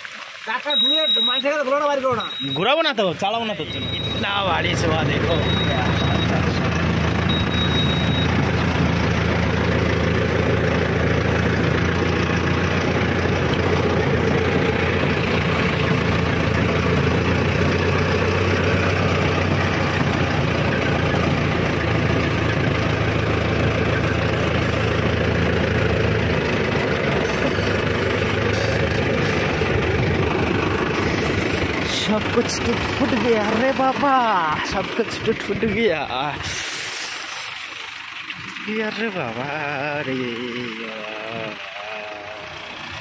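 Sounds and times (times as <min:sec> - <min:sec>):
tractor diesel engine running: 0:00.7 - 0:43.0.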